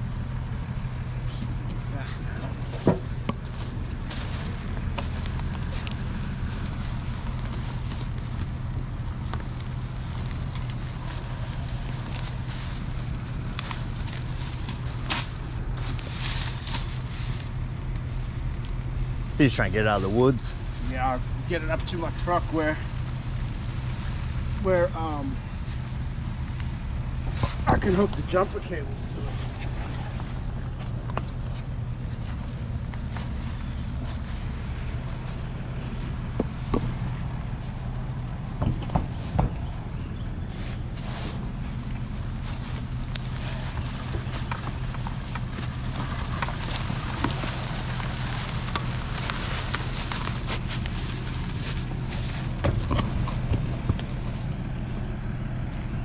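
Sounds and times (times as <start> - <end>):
crackles and rustles: 0.0 - 56.0
engine humming: 0.0 - 56.0.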